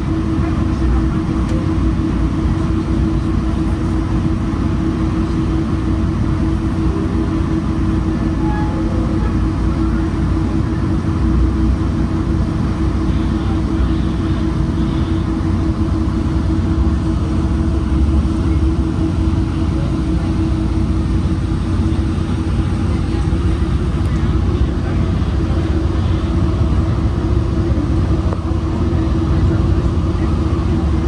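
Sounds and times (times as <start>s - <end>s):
commuter train rumbling: 0.0s - 31.0s.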